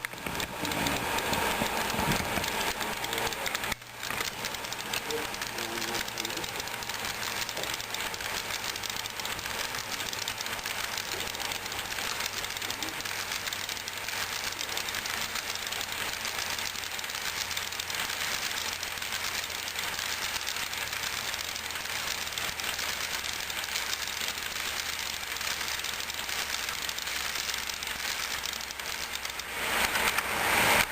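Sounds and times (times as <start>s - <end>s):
model train wheels rattling on rail: 0.0s - 30.9s.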